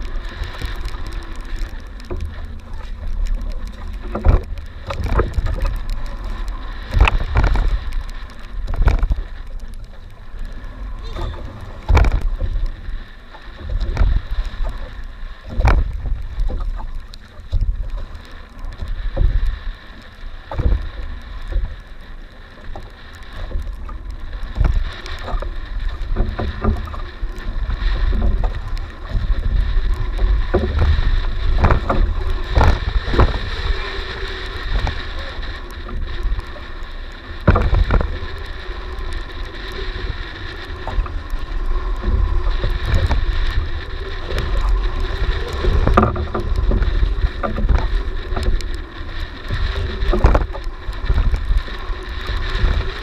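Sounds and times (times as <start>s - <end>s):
boat engine humming: 0.0s - 53.0s
water splashes: 0.0s - 53.0s
wind rumble on microphone: 0.0s - 53.0s.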